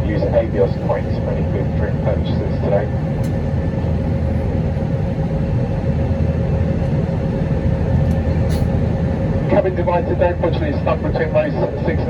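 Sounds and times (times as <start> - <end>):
constant hum: 0.0 - 12.0
jet cabin engine rumble: 0.0 - 12.0.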